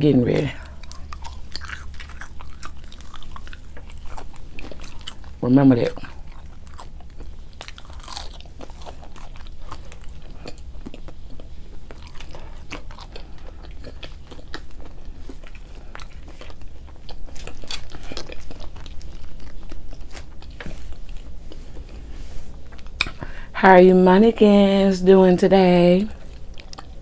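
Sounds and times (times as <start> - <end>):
crunchy chewing and biting: 0.4 - 23.2, 26.2 - 27.0.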